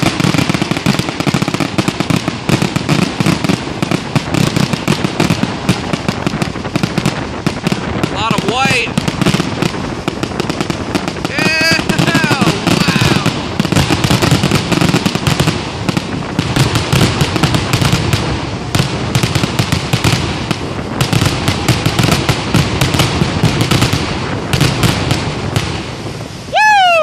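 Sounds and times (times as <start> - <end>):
fireworks bursting: 0.0 - 27.0
fireworks crackling: 0.0 - 27.0.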